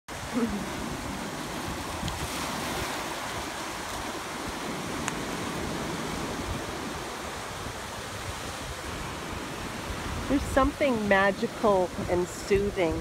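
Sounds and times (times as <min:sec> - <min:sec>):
ocean surf washing ashore: 0:00.1 - 0:13.0.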